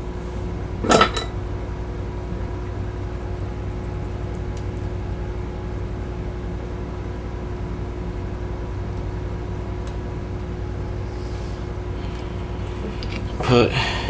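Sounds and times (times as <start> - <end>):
faint steady tone: 0.0 - 12.8
low electrical hum: 0.0 - 14.0.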